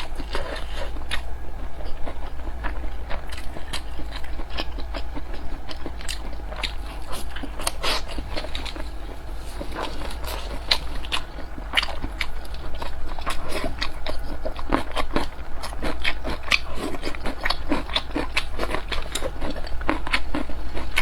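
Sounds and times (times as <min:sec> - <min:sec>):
chewing with wet mouth clicks: 0:00.0 - 0:21.0
steady low hum: 0:00.0 - 0:21.0.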